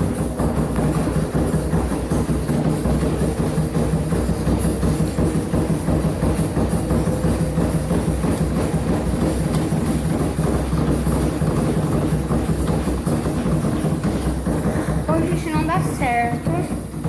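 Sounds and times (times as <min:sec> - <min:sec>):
washing machine motor hum: 0:00.0 - 0:17.0
washing machine tub knocking and rattling: 0:00.0 - 0:17.0.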